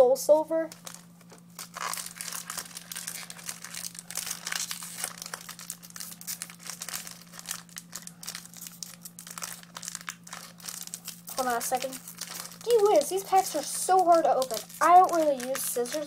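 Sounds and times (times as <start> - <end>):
foil wrapper crinkling: 0.7 - 16.0.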